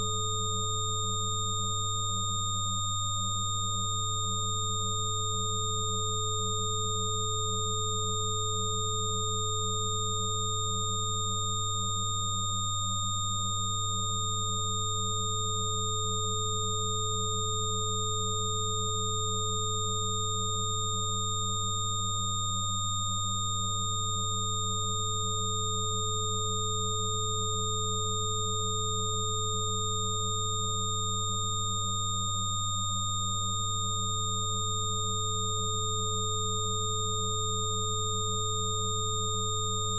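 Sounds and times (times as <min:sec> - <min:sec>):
low sine hum: 0:00.0 - 0:39.9.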